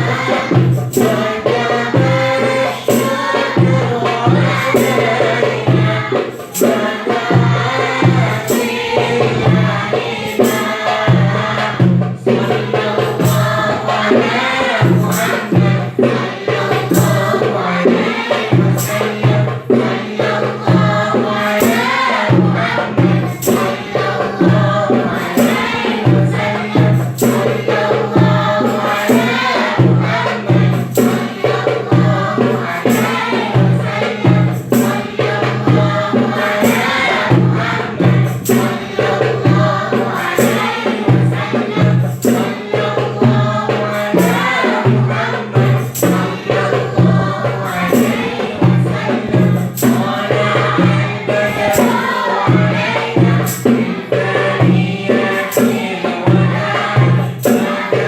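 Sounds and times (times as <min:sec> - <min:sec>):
group singing in chorus: 0:00.0 - 0:58.0
hand percussion beat: 0:00.0 - 0:58.0
tambourine jingles: 0:00.0 - 0:58.0.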